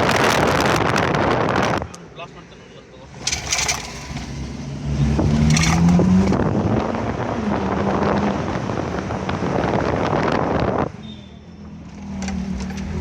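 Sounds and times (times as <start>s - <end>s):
car engine and exhaust accelerating: 0.0s - 13.0s.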